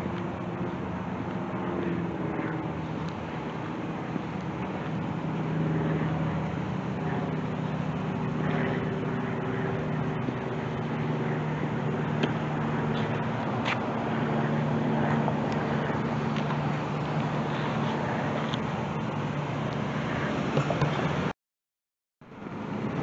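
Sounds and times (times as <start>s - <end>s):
vehicle engine hum: 0.0s - 21.3s, 22.2s - 23.0s.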